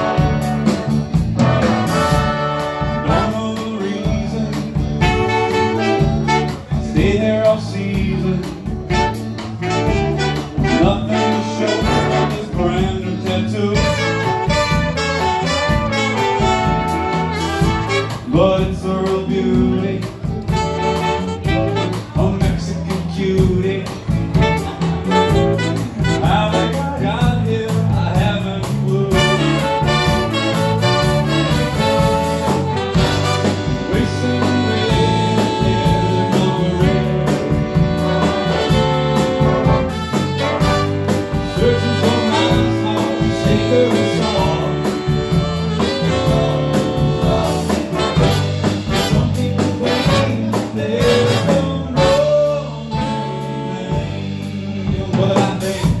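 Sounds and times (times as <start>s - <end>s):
big band playing jazz: 0.0s - 56.0s
man singing: 1.9s - 56.0s.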